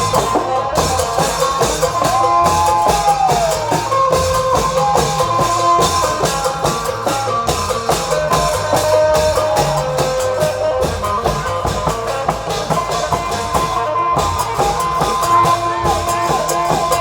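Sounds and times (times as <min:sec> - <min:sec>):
drum strokes: 0:00.0 - 0:17.0.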